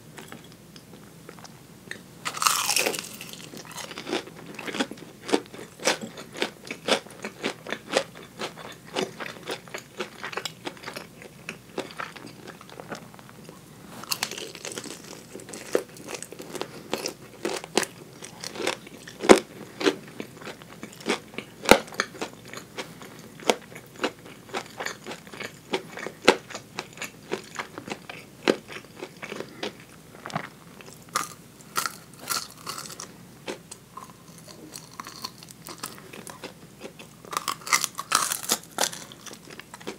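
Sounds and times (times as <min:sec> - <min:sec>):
crunchy chewing of fried chicken: 0:00.2 - 0:39.9.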